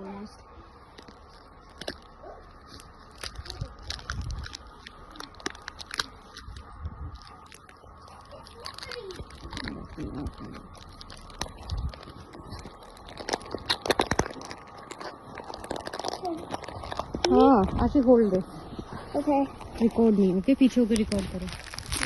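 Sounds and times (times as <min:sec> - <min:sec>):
crunching of snow: 0:00.0 - 0:22.0
wind rumbling on microphone: 0:02.8 - 0:22.0.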